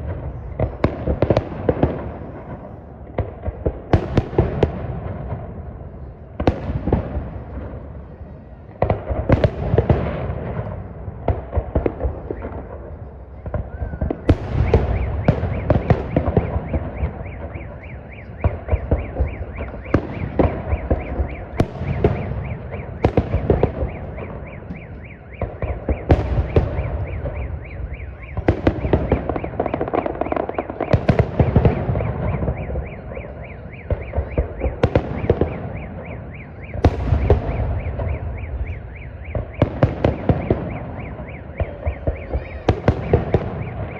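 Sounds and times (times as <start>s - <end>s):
fireworks bangs with crackling: 0.0s - 43.9s.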